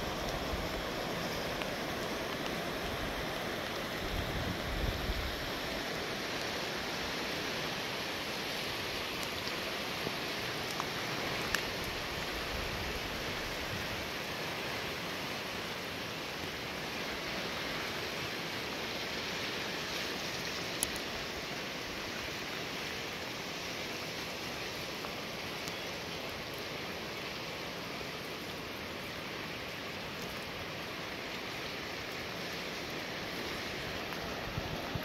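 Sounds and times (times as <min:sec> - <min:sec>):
floodwater rushing: 0:00.0 - 0:35.0
rain: 0:00.0 - 0:35.0.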